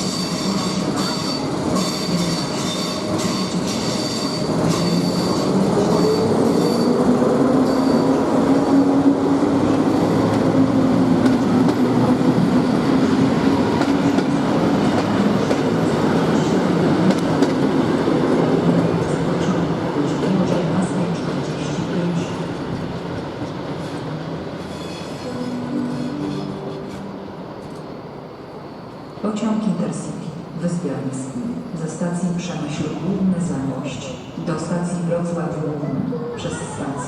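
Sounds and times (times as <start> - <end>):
train drive hum: 0.0 - 35.7
train rumble: 0.0 - 37.0.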